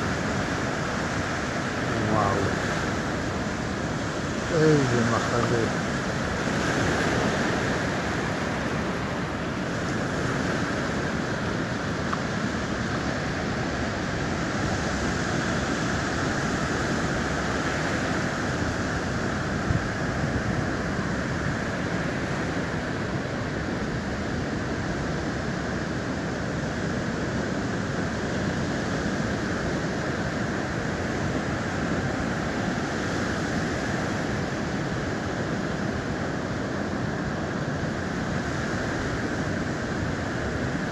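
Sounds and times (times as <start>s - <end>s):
sea surf washing on beach: 0.0s - 40.9s.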